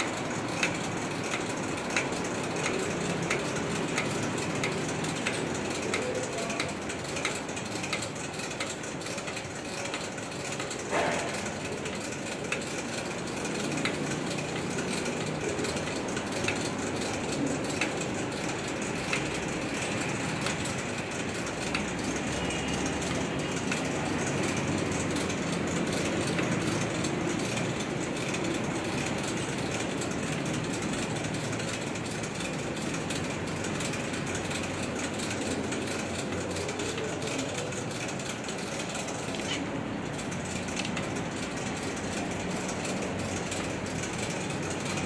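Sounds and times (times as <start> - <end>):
factory machinery running: 0.0 - 45.0.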